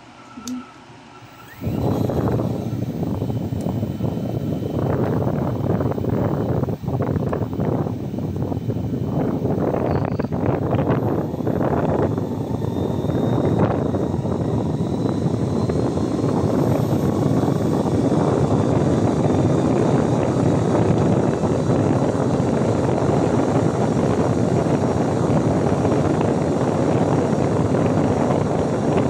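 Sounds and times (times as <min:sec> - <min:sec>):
handheld fan rushing air: 0:00.0 - 0:29.0.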